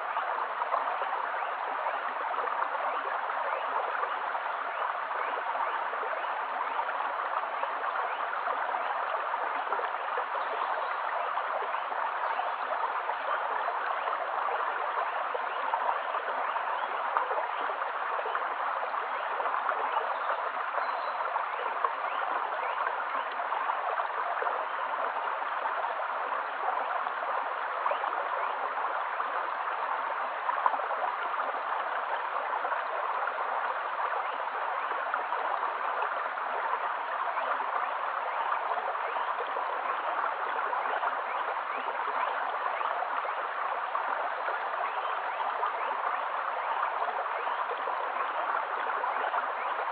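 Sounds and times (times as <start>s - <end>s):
stream running over stones: 0.0s - 49.9s.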